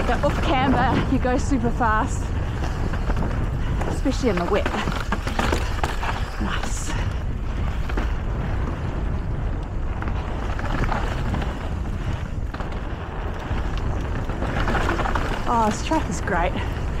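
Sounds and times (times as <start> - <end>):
bike rattling: 0.0 - 17.0
bike tyres on dirt trail: 0.0 - 17.0
low wind rumble: 0.0 - 17.0.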